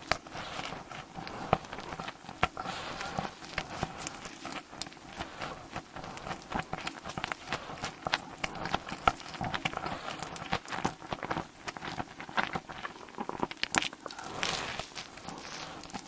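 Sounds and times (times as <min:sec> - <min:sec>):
person chewing with wet smacks: 0:00.0 - 0:16.0
rustling and sucking: 0:00.0 - 0:16.0.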